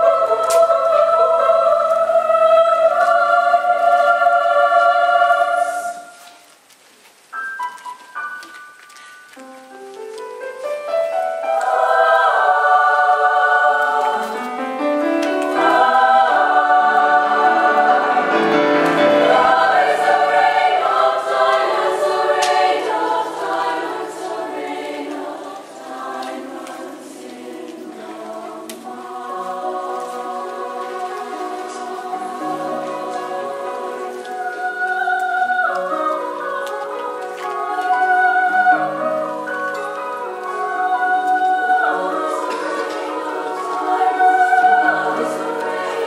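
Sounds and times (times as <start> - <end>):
women's choir singing: 0.0 - 6.4, 10.9 - 46.0.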